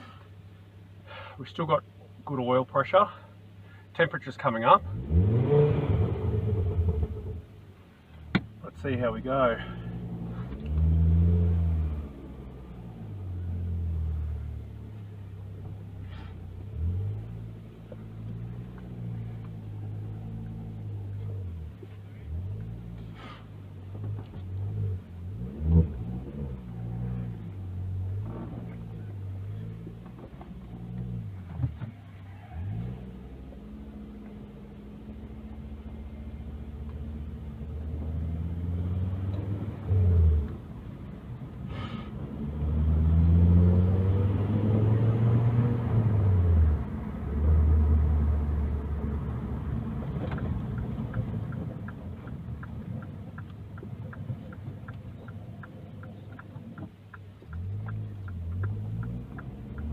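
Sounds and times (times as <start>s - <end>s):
car engine accelerating: 4.8s - 7.6s, 8.8s - 59.9s.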